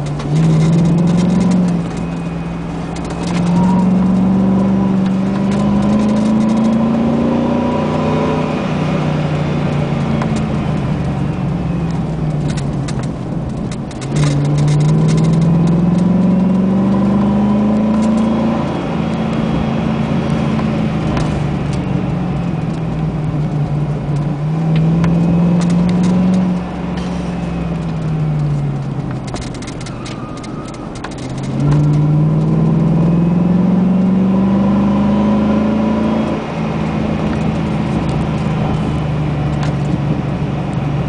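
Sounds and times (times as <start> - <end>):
pickup truck engine: 0.0 - 41.0
tyre and road noise: 0.0 - 41.0.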